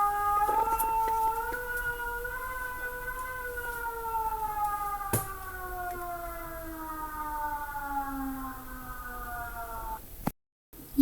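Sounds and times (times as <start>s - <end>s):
emergency siren wailing: 0.0s - 10.2s.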